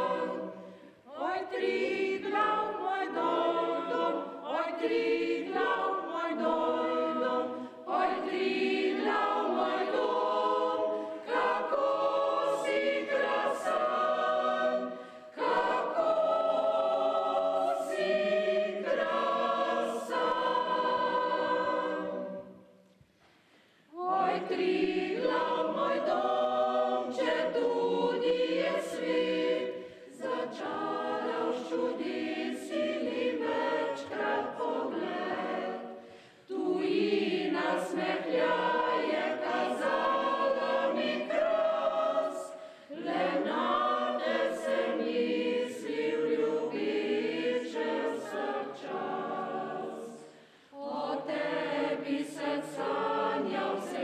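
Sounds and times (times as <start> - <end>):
mixed choir singing: 0.0 - 22.8, 23.8 - 54.0.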